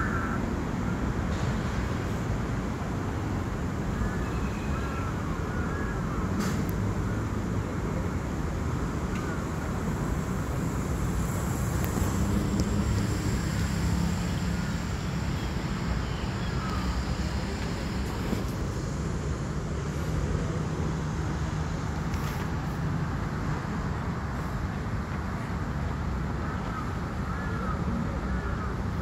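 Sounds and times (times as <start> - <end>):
city road traffic hum: 0.0 - 29.0.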